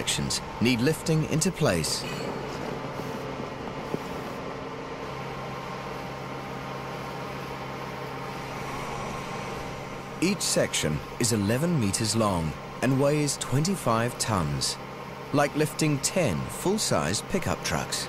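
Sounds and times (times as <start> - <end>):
building-site noise: 0.0 - 18.0
construction machinery engine hum: 0.0 - 18.0.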